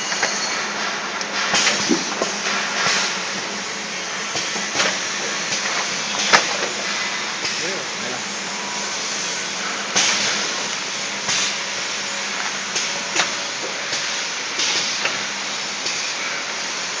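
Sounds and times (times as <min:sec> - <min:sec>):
pneumatic hiss bursts: 0:00.0 - 0:17.0
steady machine noise: 0:00.0 - 0:17.0.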